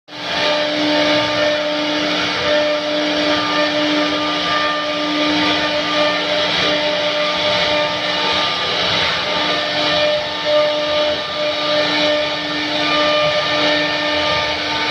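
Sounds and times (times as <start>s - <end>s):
hiss of cutting: 0.1s - 14.9s
machine spindle whine: 0.1s - 14.9s.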